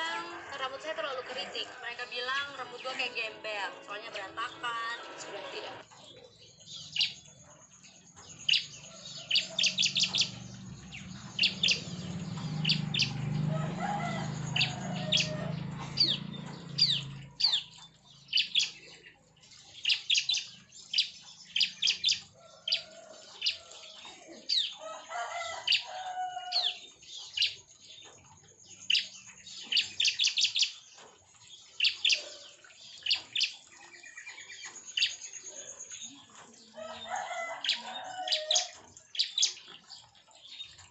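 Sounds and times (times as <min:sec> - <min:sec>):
birds chirping rapidly: 0:00.0 - 0:40.9.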